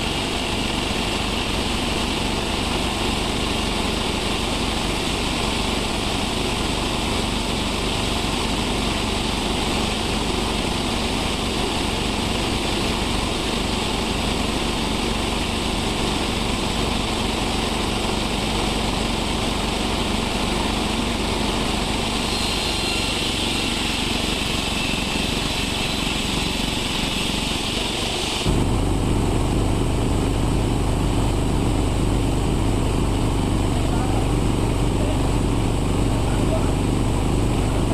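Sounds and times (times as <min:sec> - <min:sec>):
sawmill machinery droning: 0:00.0 - 0:37.9.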